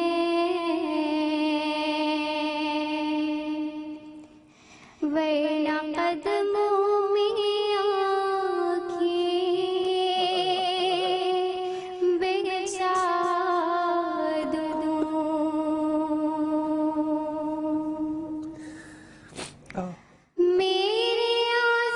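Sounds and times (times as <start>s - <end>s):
woman singing into microphone: 0.0s - 4.2s, 5.0s - 18.6s, 20.4s - 21.9s.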